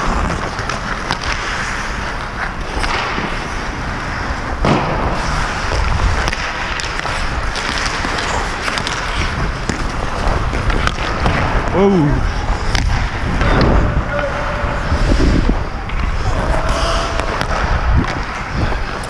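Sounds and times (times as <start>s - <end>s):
skates scraping on ice: 0.0s - 19.0s
rush of noise and rumble: 2.7s - 19.0s.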